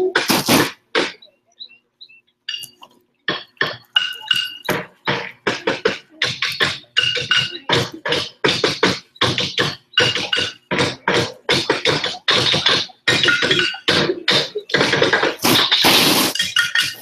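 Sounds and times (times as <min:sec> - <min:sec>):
wheelbarrows hit as percussion: 0:00.0 - 0:01.2, 0:03.3 - 0:17.0.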